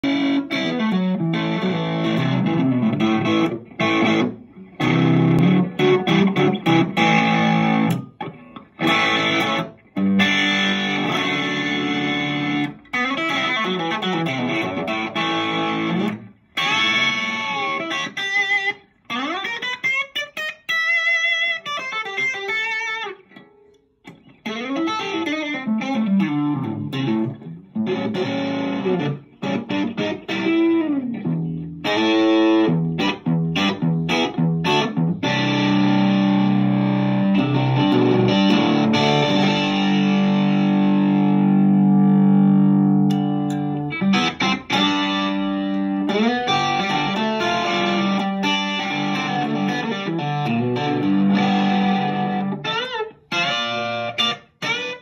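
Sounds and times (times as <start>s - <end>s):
electric guitar through valve amp: 0.0s - 55.0s.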